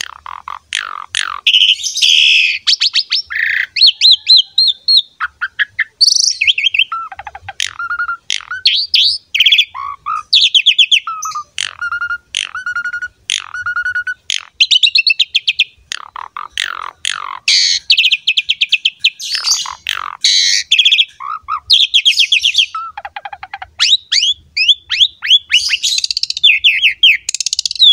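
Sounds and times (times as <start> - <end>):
starling singing: 0.0 - 27.9.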